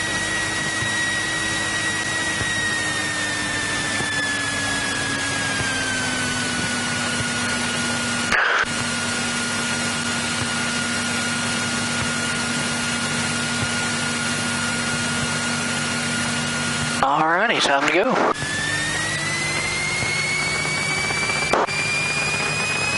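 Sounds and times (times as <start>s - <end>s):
airplane engine and propeller: 0.0s - 22.9s.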